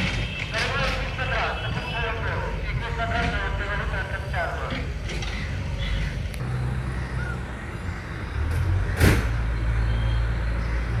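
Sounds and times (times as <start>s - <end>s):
bus diesel engine idling: 0.3s - 11.0s.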